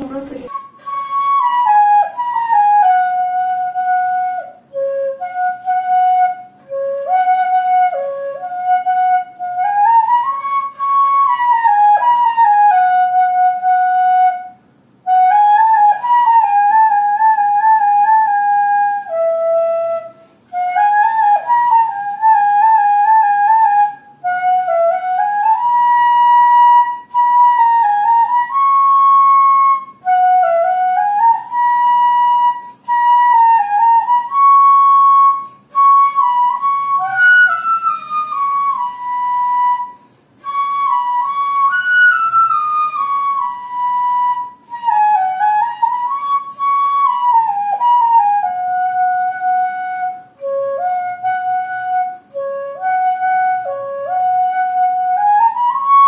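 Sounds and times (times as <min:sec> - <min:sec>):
flute melody: 0:00.0 - 0:56.0.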